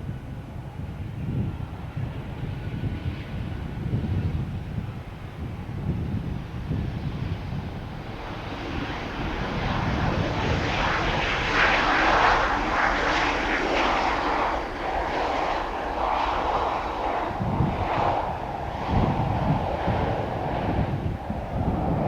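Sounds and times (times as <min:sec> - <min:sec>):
jet airliner engine roar: 0:00.0 - 0:22.0
wind rumbling on microphone: 0:00.0 - 0:22.0.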